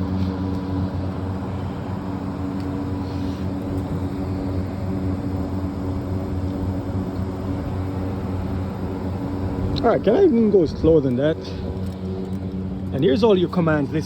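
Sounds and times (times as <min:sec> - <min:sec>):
fan motor hum: 0:00.0 - 0:14.0.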